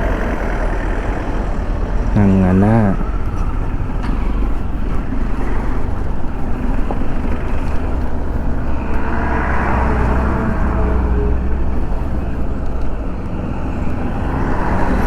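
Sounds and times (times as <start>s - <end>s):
higher-pitched vehicle sound: 0.0s - 15.0s
motorcycle engine rumble: 0.0s - 15.0s.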